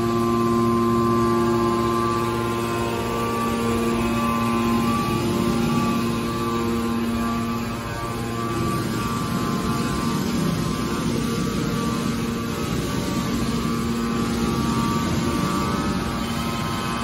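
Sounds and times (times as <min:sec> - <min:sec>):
baler mechanical hum: 0:00.0 - 0:17.0
steady machine tones: 0:00.0 - 0:17.0.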